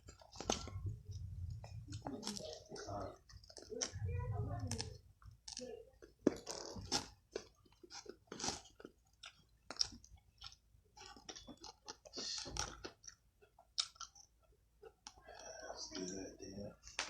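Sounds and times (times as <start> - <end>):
person chewing crunchy food: 0.0 - 4.0, 4.7 - 15.7.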